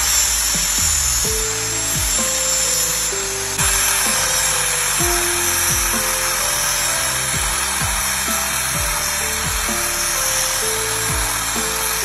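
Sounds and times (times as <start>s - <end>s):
angle grinder cutting metal: 0.0s - 12.0s
music with deep bass hits: 0.0s - 12.0s.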